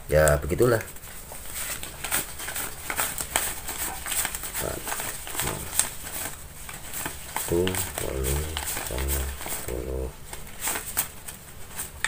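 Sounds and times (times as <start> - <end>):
banknotes rustling: 0.2 - 12.0.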